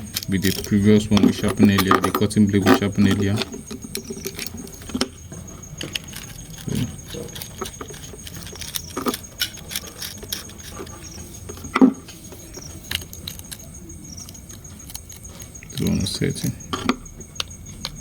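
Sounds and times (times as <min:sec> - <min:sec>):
clipper blades clicking and clinking: 0:00.0 - 0:18.0.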